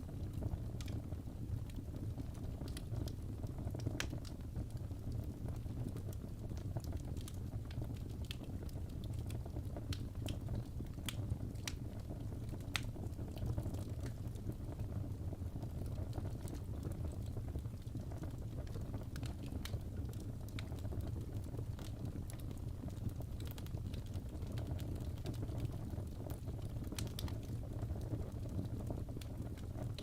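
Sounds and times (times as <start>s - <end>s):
fire crackling and popping: 0.0s - 30.0s
fire rumbling: 0.0s - 30.0s.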